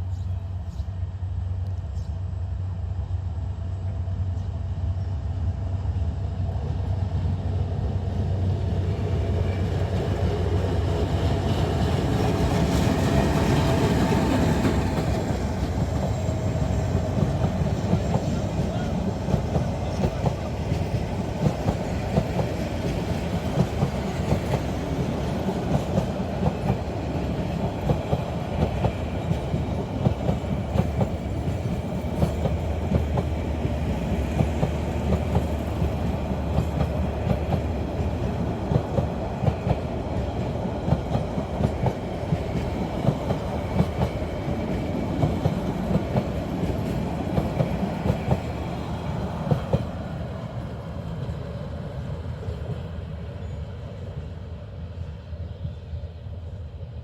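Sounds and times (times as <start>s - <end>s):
train carriages rumbling on track: 6.6s - 57.0s.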